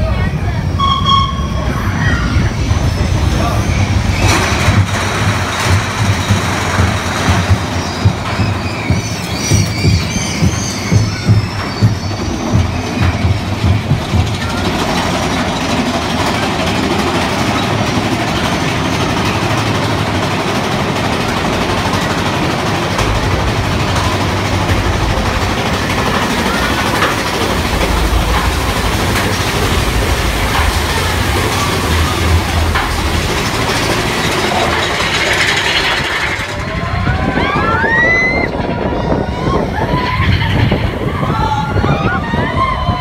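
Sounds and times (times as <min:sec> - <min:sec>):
roller coaster rattling on rails: 0:00.0 - 0:43.0.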